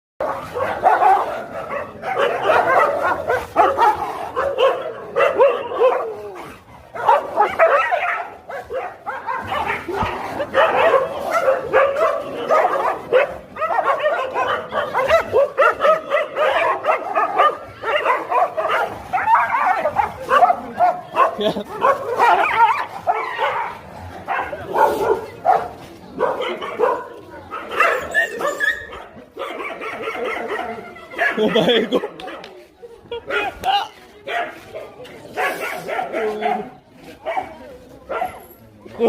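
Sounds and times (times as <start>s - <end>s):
dogs fighting barking and yelping: 0.2s - 38.6s.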